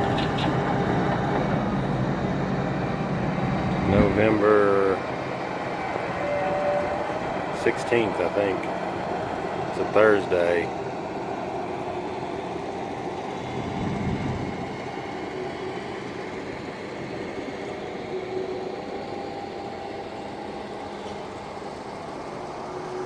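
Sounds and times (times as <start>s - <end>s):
engine running with faint whine: 0.0s - 23.0s.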